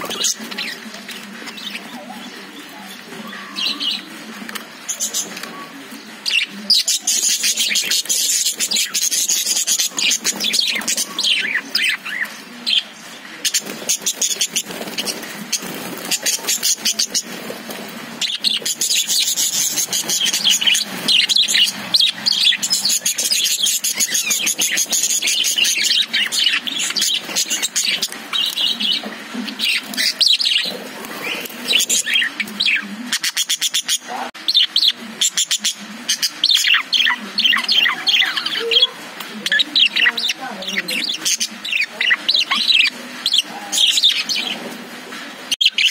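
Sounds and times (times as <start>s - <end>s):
budgerigars chirping and chattering: 0.0s - 45.9s.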